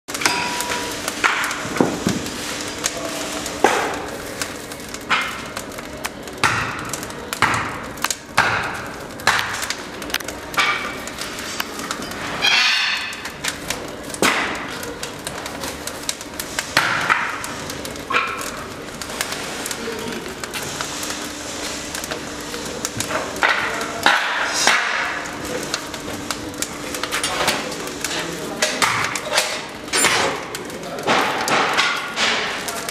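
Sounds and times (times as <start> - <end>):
firewood crackling and popping: 0.1 - 32.9
fire hissing flare-ups: 0.7 - 32.9.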